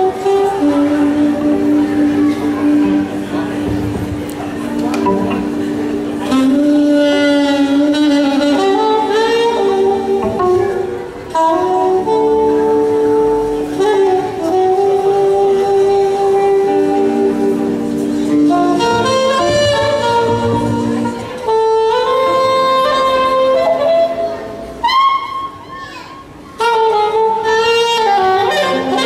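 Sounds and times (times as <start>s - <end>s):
live band music: 0.0s - 29.0s
saxophone slow sliding melody: 0.0s - 29.0s.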